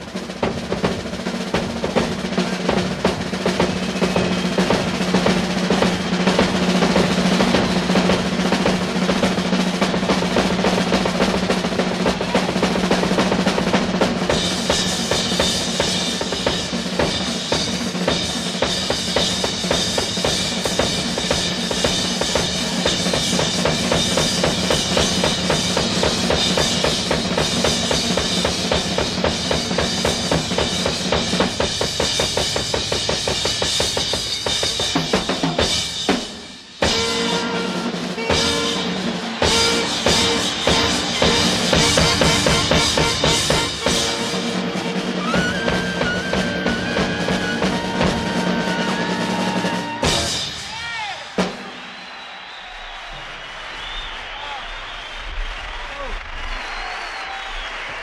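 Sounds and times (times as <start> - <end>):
jazz drum solo: 0.0 - 52.0.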